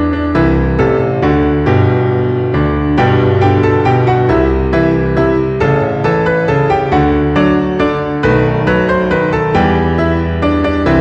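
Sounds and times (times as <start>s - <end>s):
piano background music: 0.0s - 11.0s.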